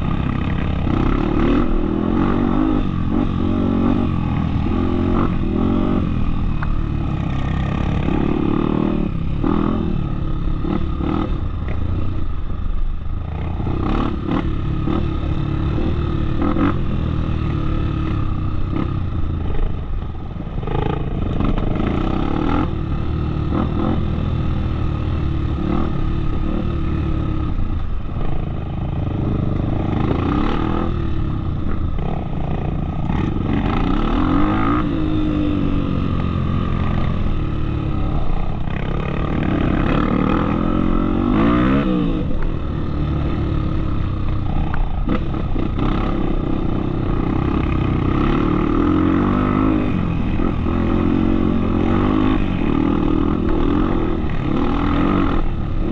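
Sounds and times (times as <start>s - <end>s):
off-road motorcycle engine: 0.0s - 55.9s.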